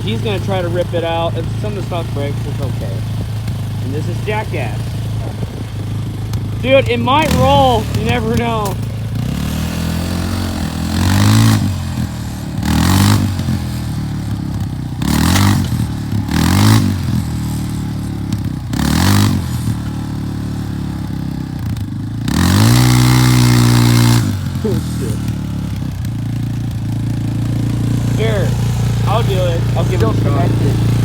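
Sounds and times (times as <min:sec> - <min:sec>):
engine revving: 0:00.0 - 0:31.0.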